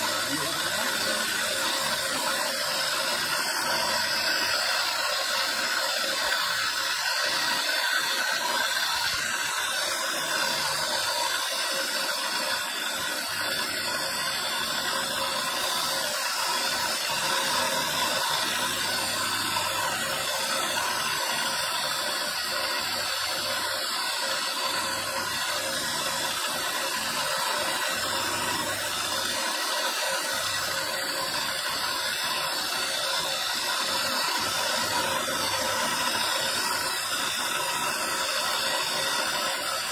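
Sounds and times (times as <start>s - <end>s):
motor grinding stone: 0.0s - 39.9s.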